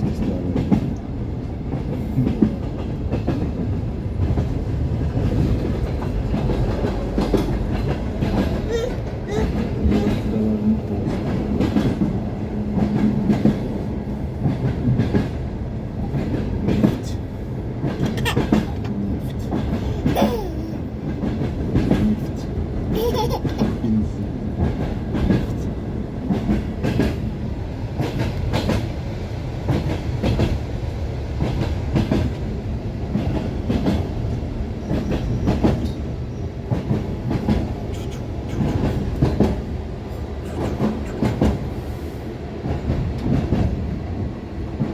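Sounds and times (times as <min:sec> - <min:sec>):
train wheels clattering on rails: 0:00.0 - 0:44.9.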